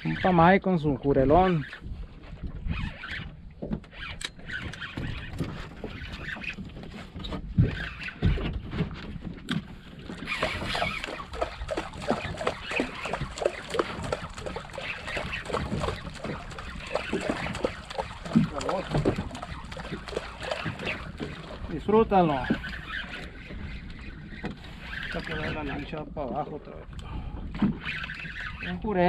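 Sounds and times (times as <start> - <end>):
water lapping against boat hull: 0.0 - 29.0
wind on microphone: 0.0 - 29.0.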